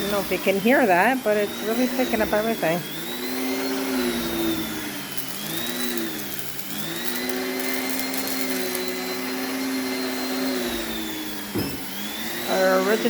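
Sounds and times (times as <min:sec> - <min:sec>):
vacuum cleaner whining: 0:00.0 - 0:13.0.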